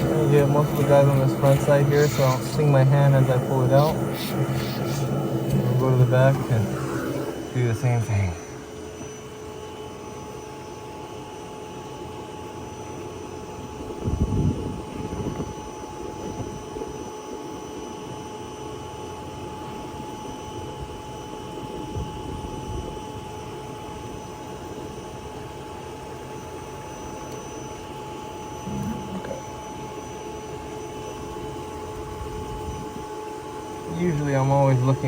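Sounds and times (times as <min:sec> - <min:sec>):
vacuum motor whine: 0:00.0 - 0:35.0.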